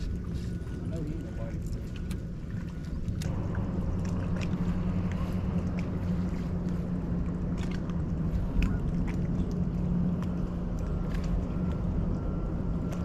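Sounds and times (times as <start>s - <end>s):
electric motor low hum: 0.0s - 13.0s
rushing water wash: 0.0s - 13.0s.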